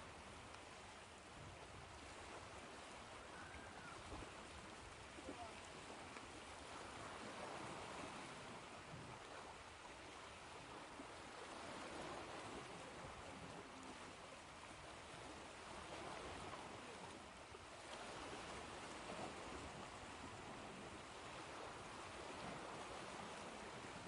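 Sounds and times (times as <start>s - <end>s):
ocean waves washing on shore: 0.0s - 24.0s.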